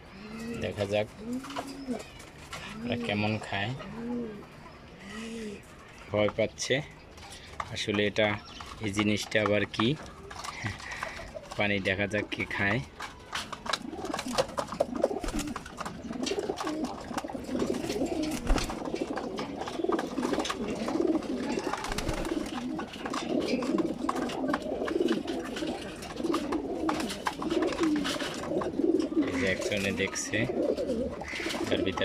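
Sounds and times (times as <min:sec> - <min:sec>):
pigeons cooing: 0:00.0 - 0:06.0, 0:08.3 - 0:32.0.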